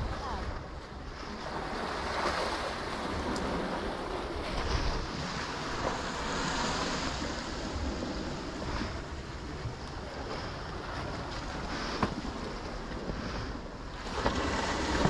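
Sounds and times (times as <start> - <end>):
sea surf on rocks: 0.0 - 15.0
wind on microphone: 0.0 - 15.0.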